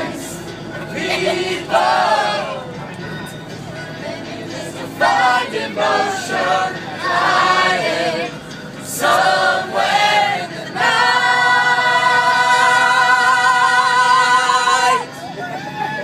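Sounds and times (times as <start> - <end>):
group singing unaccompanied: 0.0 - 2.8, 3.8 - 15.2.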